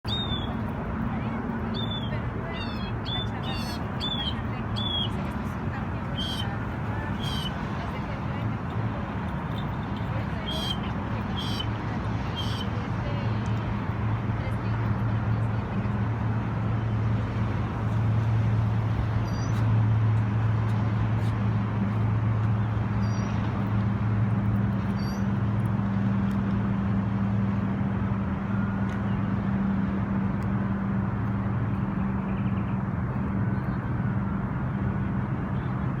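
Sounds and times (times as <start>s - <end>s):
city noise: 0.0s - 36.0s
large engine humming: 0.0s - 36.0s.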